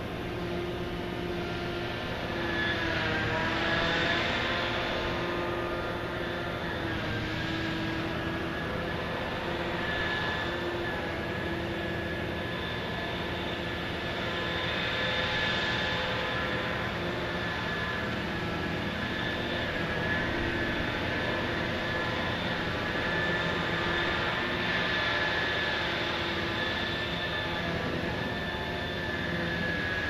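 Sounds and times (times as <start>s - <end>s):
dredging machinery diesel drone: 0.0s - 30.0s
high hydraulic whine: 0.0s - 30.0s.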